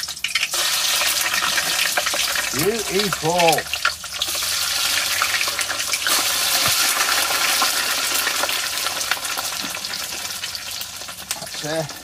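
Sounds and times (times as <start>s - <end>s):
hot oil sizzling and bubbling: 0.0s - 12.0s.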